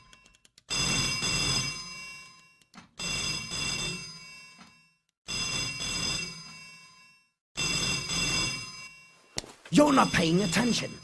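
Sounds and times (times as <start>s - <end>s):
telephone bell ringing: 0.0s - 11.0s.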